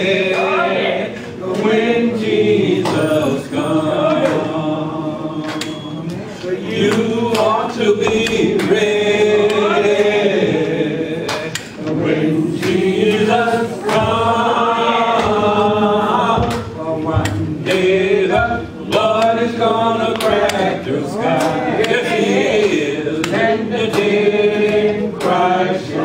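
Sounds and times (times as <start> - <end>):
a cappella gospel singing: 0.0 - 26.0.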